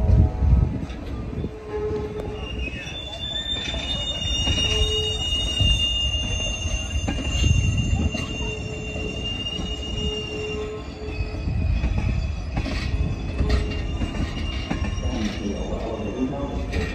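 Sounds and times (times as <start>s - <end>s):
low rumble of train: 0.0s - 16.9s
train wheels squealing on rails: 0.5s - 16.9s.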